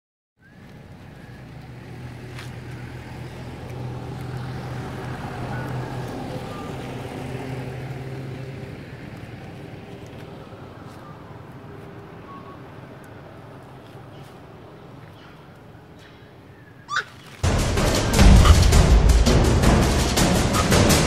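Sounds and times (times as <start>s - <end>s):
low motor hum: 0.5s - 15.9s, 17.4s - 21.0s.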